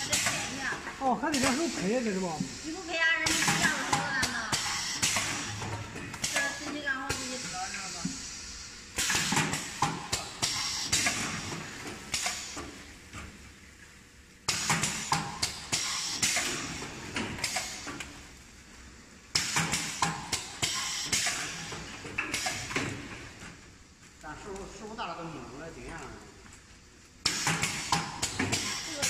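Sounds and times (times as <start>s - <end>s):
air cylinders clacking and hissing: 0.0s - 13.5s, 14.4s - 18.3s, 19.3s - 23.8s, 25.2s - 29.0s.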